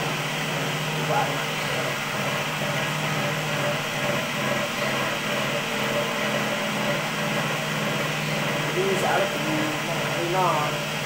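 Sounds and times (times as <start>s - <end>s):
cotton candy machine humming: 0.0s - 11.0s.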